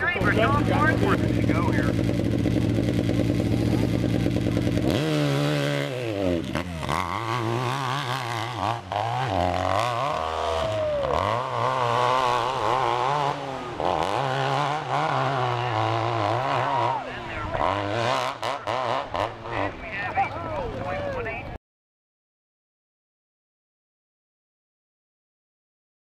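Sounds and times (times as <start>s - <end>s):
motorcycle engine revving: 0.0s - 21.2s.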